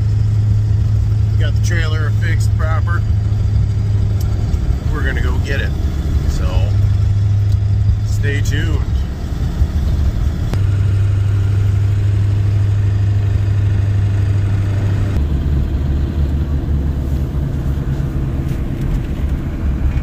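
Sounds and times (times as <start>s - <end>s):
truck engine and road drone: 0.0s - 20.0s.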